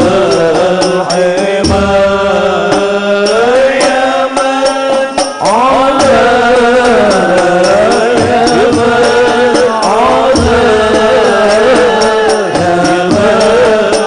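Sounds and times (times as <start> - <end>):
men singing in unison: 0.0 - 14.0
steady percussion beat: 0.0 - 14.0.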